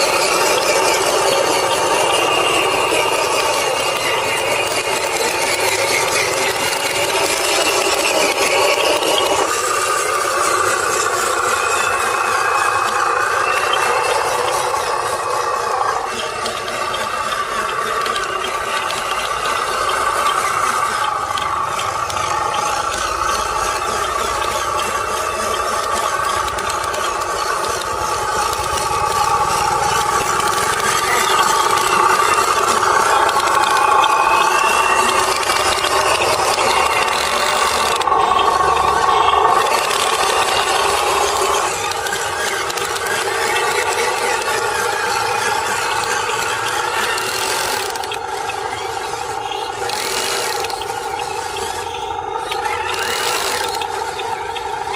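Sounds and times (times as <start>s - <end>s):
toy truck motor whining: 0.0s - 54.9s.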